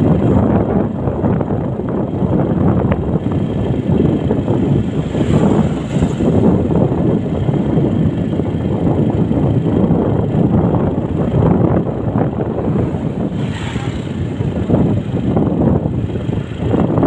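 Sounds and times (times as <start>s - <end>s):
vehicle noise: 0.0s - 17.0s
wind buffeting microphone: 0.0s - 17.0s.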